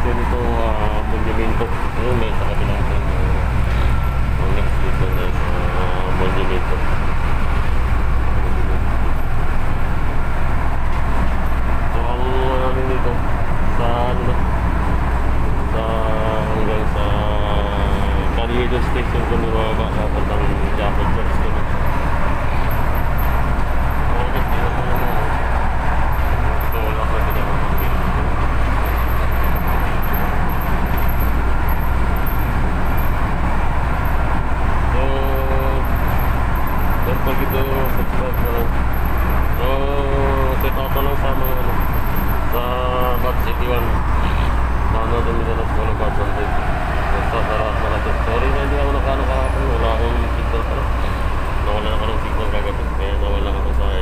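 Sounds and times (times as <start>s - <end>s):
train rumbling from inside: 0.0s - 54.0s.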